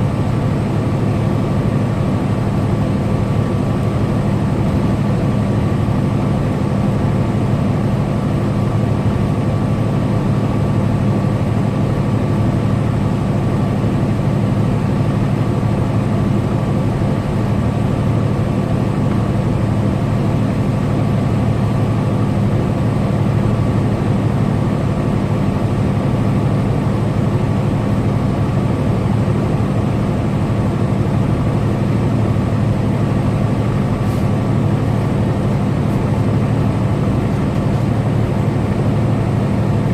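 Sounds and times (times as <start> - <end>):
diesel engine droning: 0.0 - 39.9
road and tyre noise: 0.0 - 39.9.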